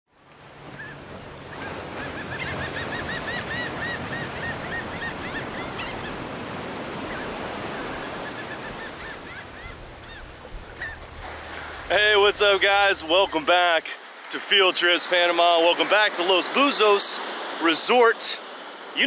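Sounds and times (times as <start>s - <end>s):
surf washing onto a beach: 0.2s - 19.0s.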